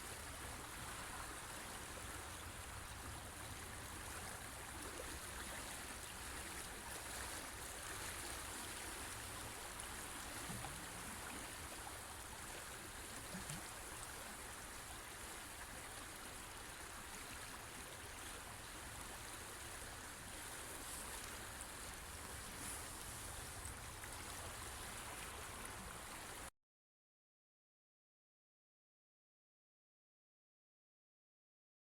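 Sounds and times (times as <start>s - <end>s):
river water rushing: 0.0s - 26.5s.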